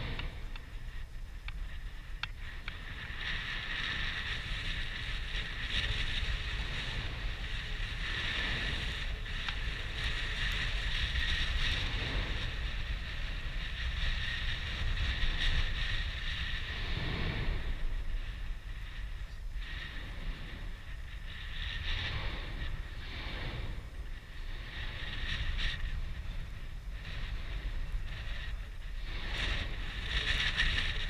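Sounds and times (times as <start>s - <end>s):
deep rumble: 0.0s - 31.0s
volcano crater roaring: 0.0s - 31.0s.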